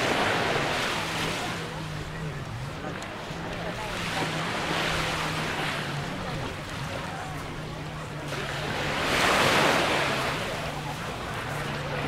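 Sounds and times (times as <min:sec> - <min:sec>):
sea waves on sandy beach: 0:00.0 - 0:12.0.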